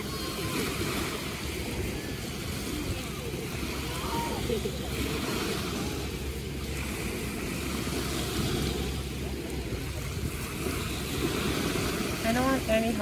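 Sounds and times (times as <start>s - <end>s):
beach surf: 0.0s - 13.0s
wind on microphone: 0.0s - 13.0s.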